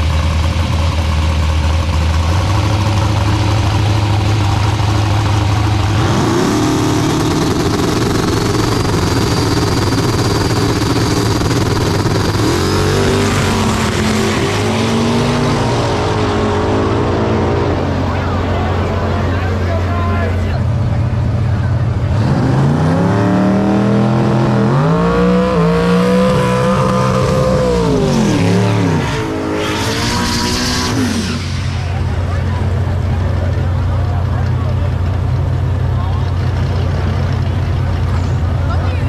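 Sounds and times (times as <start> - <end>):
race car engines idling: 0.0 - 39.0
race cars accelerating: 2.3 - 39.0.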